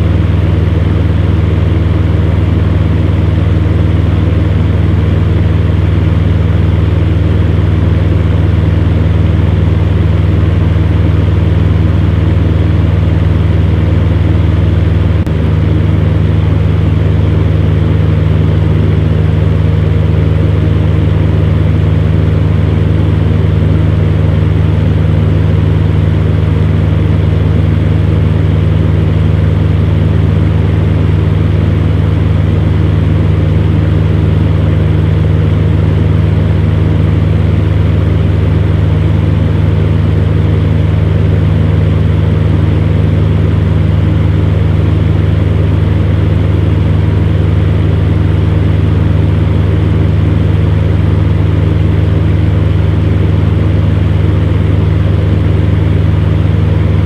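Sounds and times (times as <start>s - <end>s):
fan heater motor hum: 0.0s - 57.0s.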